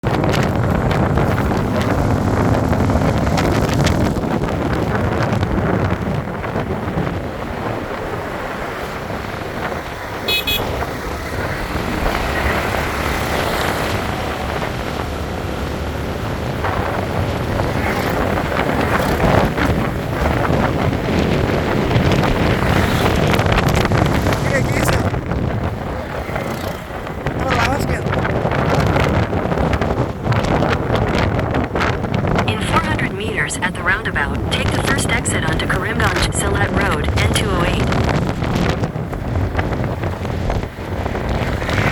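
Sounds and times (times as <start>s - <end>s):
motorcycle running: 0.0s - 33.0s, 37.8s - 41.9s
road noise: 0.0s - 41.9s
wind buffeting microphone: 0.0s - 41.9s.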